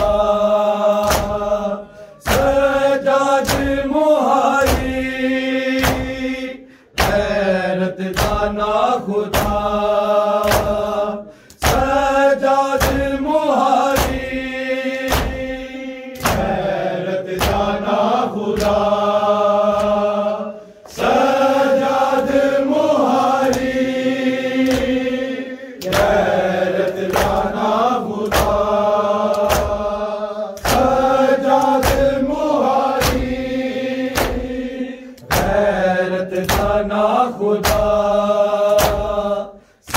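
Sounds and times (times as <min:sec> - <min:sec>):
chest-beating slaps: 0:00.0 - 0:37.0, 0:37.6 - 0:39.9
men chanting a lament: 0:00.0 - 0:39.9.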